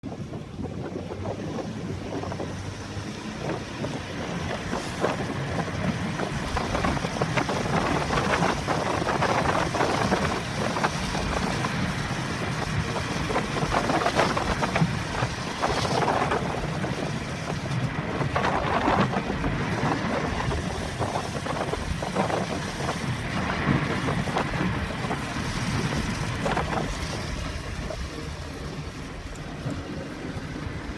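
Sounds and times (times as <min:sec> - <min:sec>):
car road and engine rumble: 0:00.0 - 0:30.9
wind gusts: 0:00.0 - 0:30.9
rain on car: 0:00.1 - 0:30.9.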